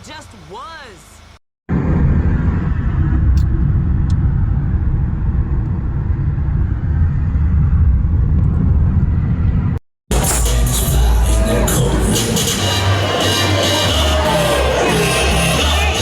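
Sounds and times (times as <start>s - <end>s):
car engine rumbling: 1.7s - 16.0s.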